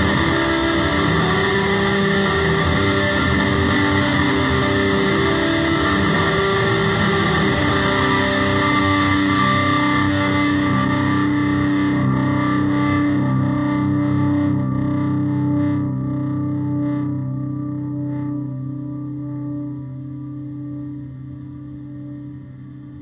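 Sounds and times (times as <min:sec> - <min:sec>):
distorted electric guitar drone: 0:00.0 - 0:23.0.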